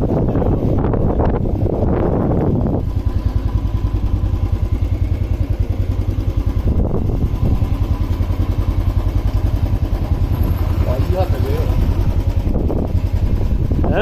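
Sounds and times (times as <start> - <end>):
wind noise on microphone: 0.0 - 8.3, 9.7 - 14.0
motorcycle engine idling: 0.0 - 14.0.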